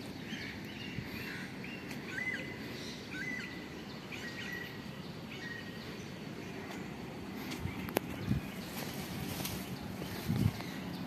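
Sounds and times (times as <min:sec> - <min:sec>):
birds chirping: 0:00.0 - 0:11.0
low background hum: 0:00.0 - 0:11.0.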